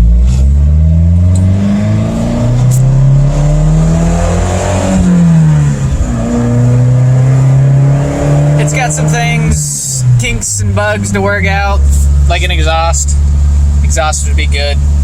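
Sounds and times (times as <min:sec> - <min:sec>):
pickup engine accelerating: 0:00.0 - 0:15.0.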